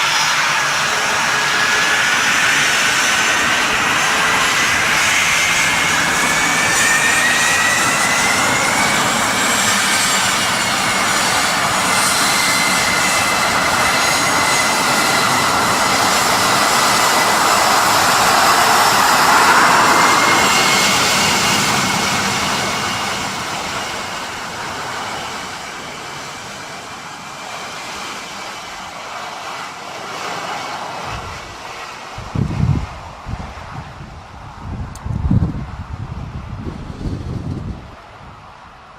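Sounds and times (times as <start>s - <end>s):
transport plane engines: 0.0s - 38.9s.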